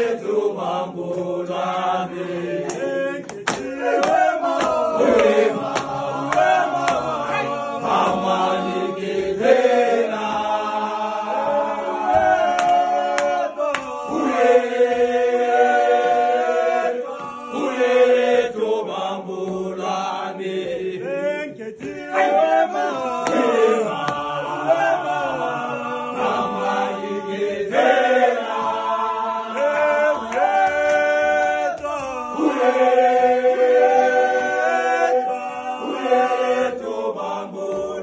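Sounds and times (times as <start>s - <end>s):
men singing a chant: 0.0s - 38.0s.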